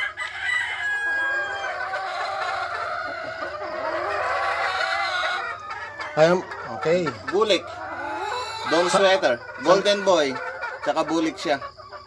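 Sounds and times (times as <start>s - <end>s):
hens clucking: 0.0s - 12.0s
roosters crowing: 0.0s - 12.0s.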